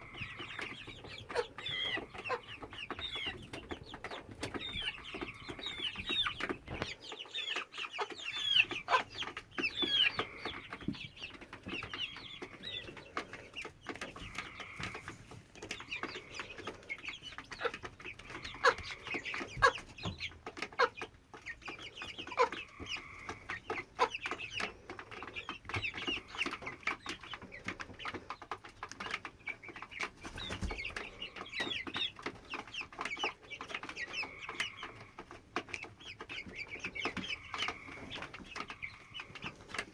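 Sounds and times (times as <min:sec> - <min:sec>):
young hen chirping: 0:00.0 - 0:39.9.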